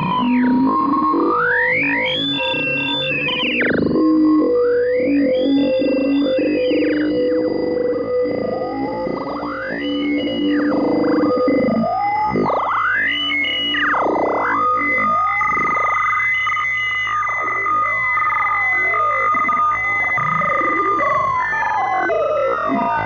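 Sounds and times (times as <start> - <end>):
electronic tones sweeping up and down: 0.0 - 23.0
steady high electronic tones: 0.0 - 23.0.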